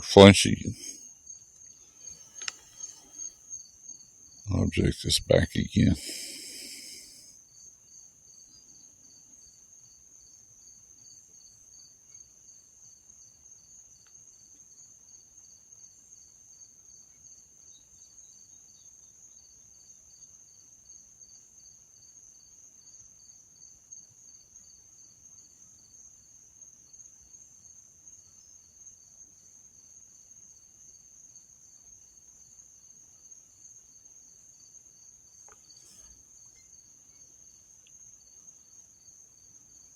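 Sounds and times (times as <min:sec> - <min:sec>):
crickets trilling: 0:00.0 - 0:39.9
pulsing cricket chirp: 0:00.0 - 0:39.9.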